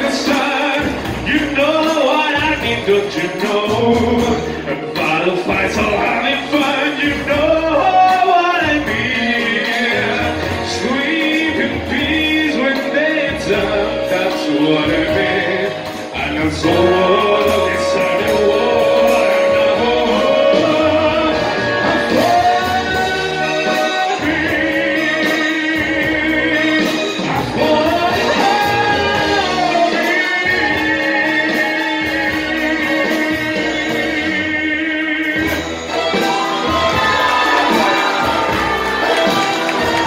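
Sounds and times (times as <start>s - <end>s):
man singing into microphone: 0.0s - 38.3s
instrumental backing music: 0.0s - 40.0s.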